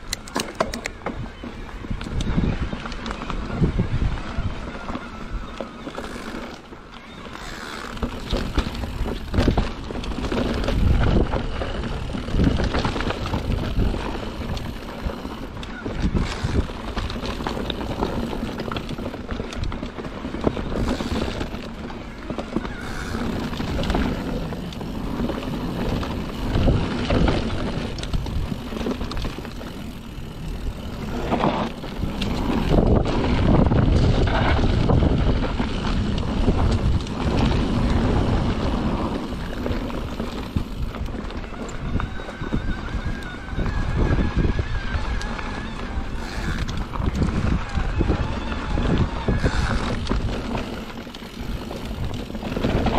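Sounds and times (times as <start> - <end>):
bike knocking and rattling: 0.0 - 52.9
tyres rolling over dirt and leaves: 0.0 - 52.9
wind rumbling on microphone: 0.0 - 52.9.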